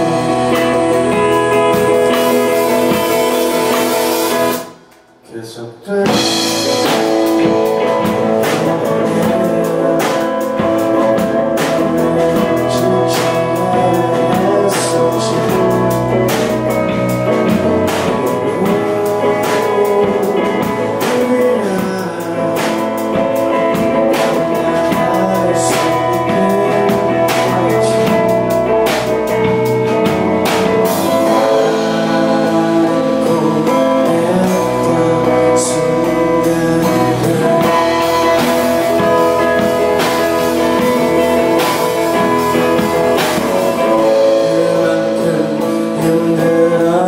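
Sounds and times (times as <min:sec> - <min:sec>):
drum kit: 0:00.0 - 0:05.2, 0:05.9 - 0:47.0
bass guitar: 0:00.0 - 0:47.0
electric guitars: 0:00.0 - 0:47.0
keyboard: 0:00.0 - 0:47.0.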